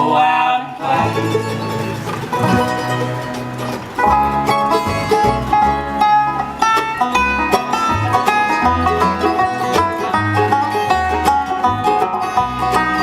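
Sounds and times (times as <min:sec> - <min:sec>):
banjo picking quick runs: 0:00.8 - 0:13.0
deep bass notes: 0:00.8 - 0:13.0.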